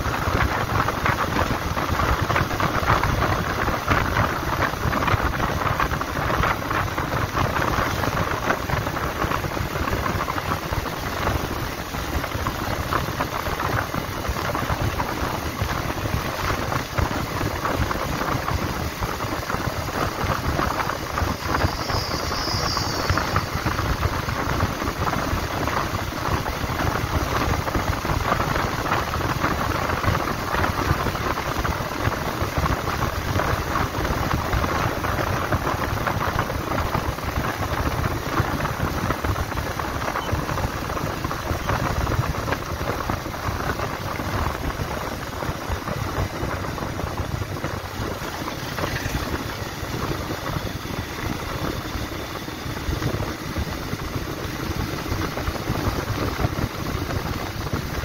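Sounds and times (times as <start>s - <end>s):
motorcycle engine running: 0.0s - 58.0s
motorcycle road noise: 0.0s - 58.0s
wind rush on microphone: 0.0s - 58.0s.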